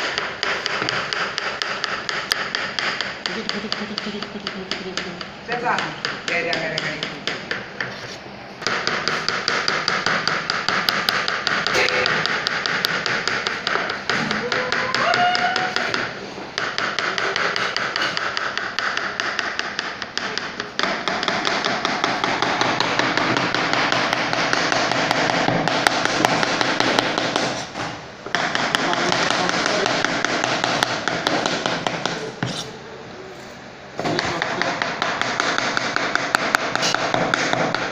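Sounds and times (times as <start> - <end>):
knife chopping on cutting board: 0.0 - 32.7, 34.0 - 37.9.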